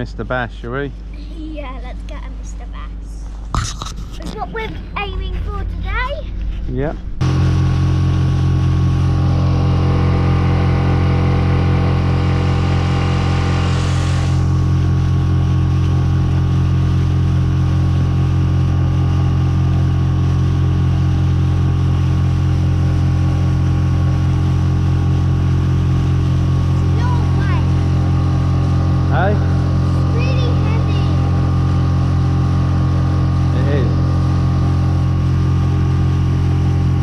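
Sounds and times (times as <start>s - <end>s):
outboard motor running: 7.2s - 37.0s.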